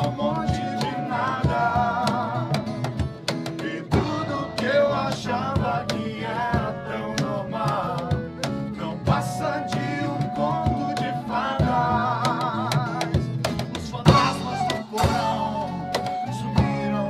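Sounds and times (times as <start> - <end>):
man and woman singing: 0.0 - 2.8, 3.6 - 17.0
strummed acoustic guitars: 0.0 - 17.0.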